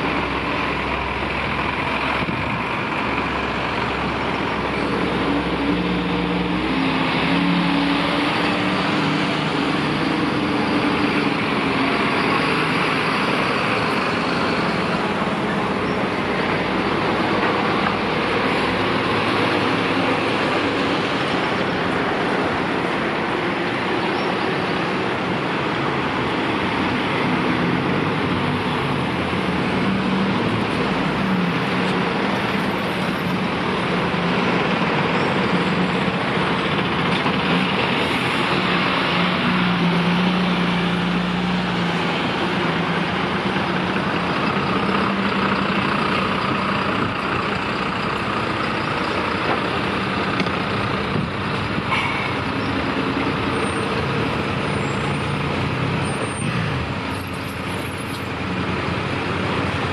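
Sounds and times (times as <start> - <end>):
diesel engines humming: 0.0 - 59.9
road traffic noise: 0.0 - 59.9.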